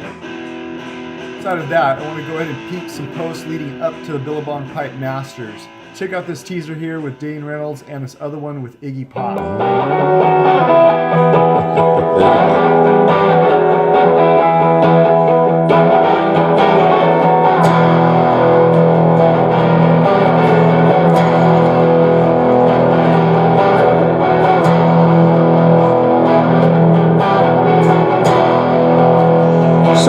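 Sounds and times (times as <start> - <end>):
distorted electric guitar chords: 0.0 - 7.8, 9.1 - 30.0.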